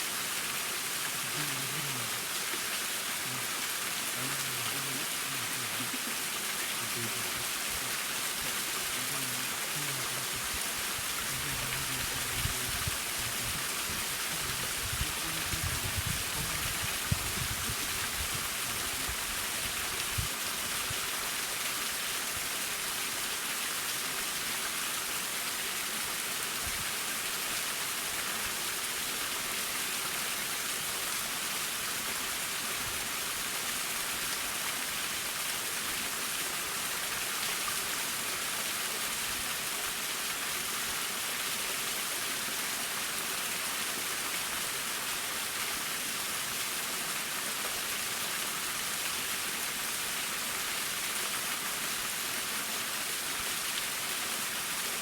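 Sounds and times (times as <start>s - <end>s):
waterfall splashing: 0.0s - 55.0s.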